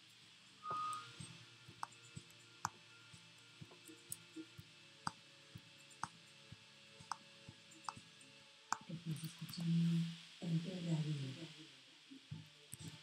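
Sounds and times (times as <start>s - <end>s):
faint background tones: 0.0s - 13.0s.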